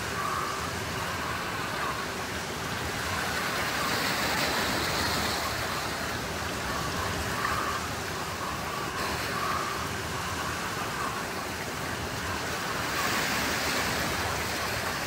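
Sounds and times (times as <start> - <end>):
waves washing onto pebbly shore: 0.0 - 15.0.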